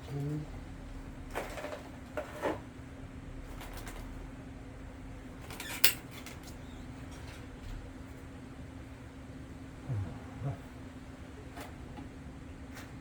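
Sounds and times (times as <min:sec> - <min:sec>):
steady low hum: 0:00.0 - 0:05.5, 0:06.4 - 0:12.8.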